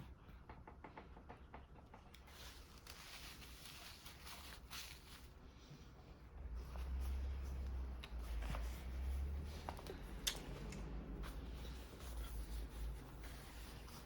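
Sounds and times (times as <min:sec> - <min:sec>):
soft rustling: 0:02.2 - 0:14.0.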